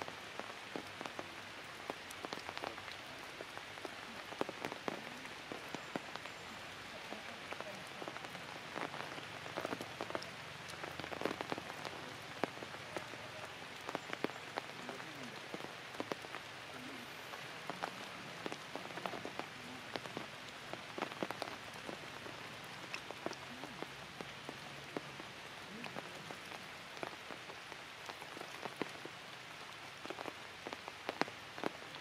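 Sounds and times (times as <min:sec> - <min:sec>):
water drops striking foliage: 0:00.0 - 0:29.1
light rain on leaves: 0:00.0 - 0:32.0.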